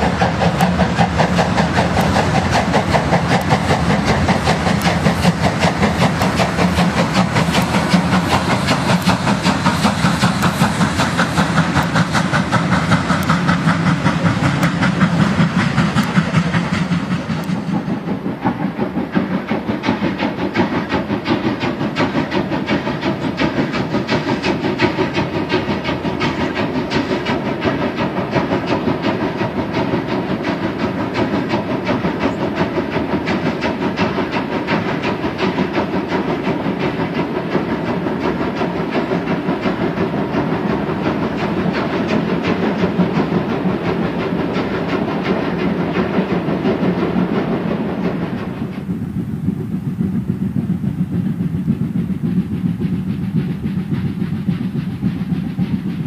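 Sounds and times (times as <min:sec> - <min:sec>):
steam locomotive exhaust beating: 0:00.0 - 0:56.0
train wheels clattering: 0:00.0 - 0:56.0.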